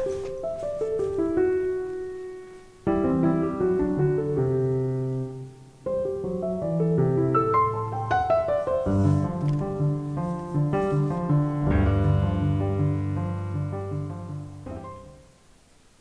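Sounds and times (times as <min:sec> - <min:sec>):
gentle piano melody: 0:00.0 - 0:15.6.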